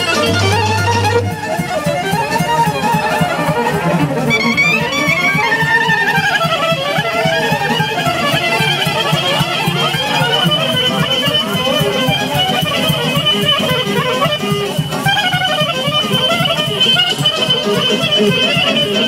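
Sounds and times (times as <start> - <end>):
band rhythmic accompaniment: 0.0 - 19.0
violin melody: 0.0 - 19.0.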